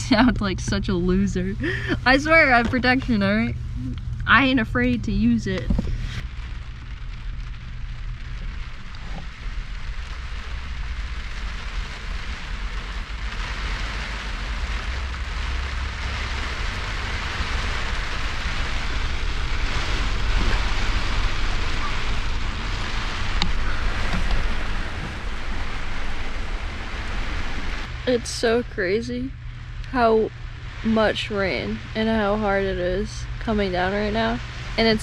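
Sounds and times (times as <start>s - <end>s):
heavy rain on roof: 0.0s - 35.0s
low rumble: 0.0s - 35.0s.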